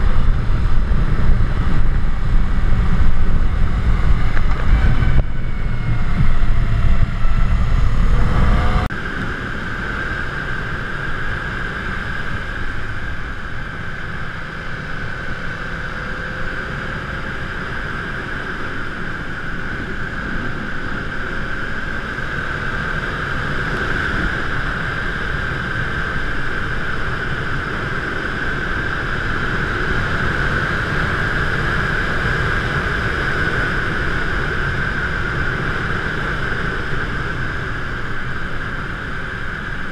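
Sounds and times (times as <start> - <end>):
high-pitched whine: 0.0 - 39.9
rush of wind and motion: 0.0 - 39.9
wind buffeting microphone: 0.0 - 39.9.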